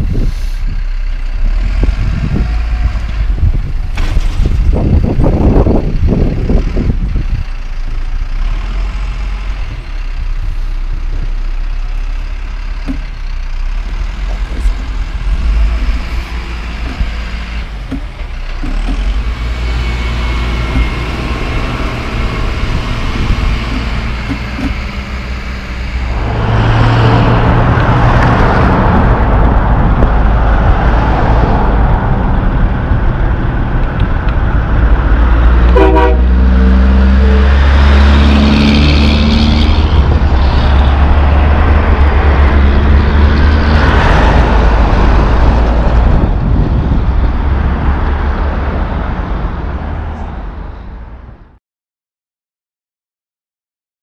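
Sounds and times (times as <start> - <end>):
wheel loader diesel engine running: 0.0 - 51.3
heavy diesel truck: 0.0 - 51.6.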